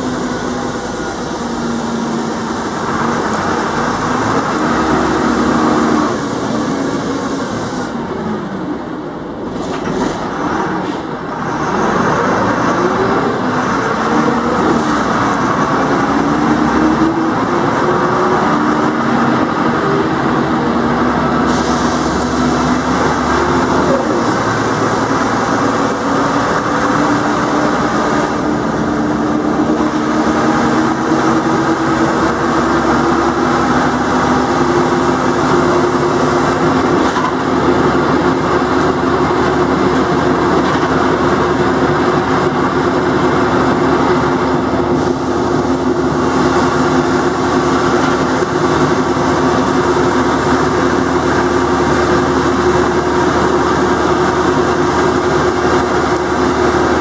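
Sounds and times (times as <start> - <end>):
bus engine and transmission: 0.0 - 57.0.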